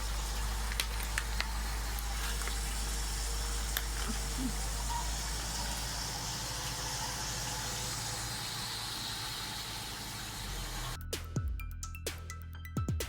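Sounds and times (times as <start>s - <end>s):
washing machine hum: 0.0s - 11.0s
water rushing in tub: 0.0s - 11.0s.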